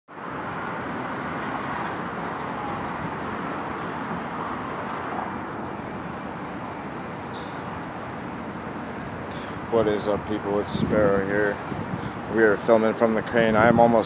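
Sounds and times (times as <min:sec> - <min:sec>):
distant city traffic: 0:00.1 - 0:14.0.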